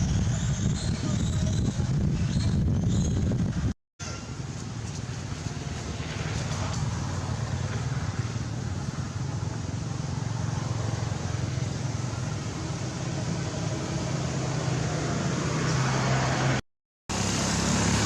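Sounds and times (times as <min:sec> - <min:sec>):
road traffic rumble and hiss: 0:00.0 - 0:18.0.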